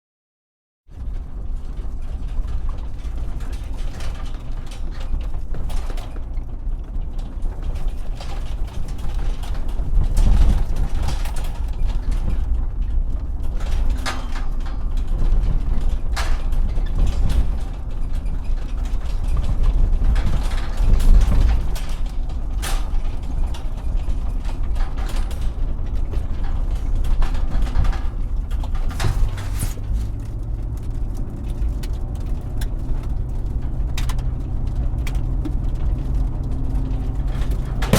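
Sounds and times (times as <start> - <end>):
car rumbling over bumpy road: 0.9 - 37.9
rattles clunks and creaks: 0.9 - 37.9.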